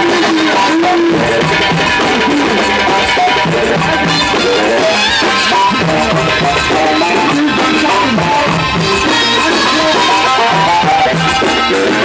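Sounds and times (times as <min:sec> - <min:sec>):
band music: 0:00.0 - 0:12.0
frame drums beating: 0:00.0 - 0:12.0.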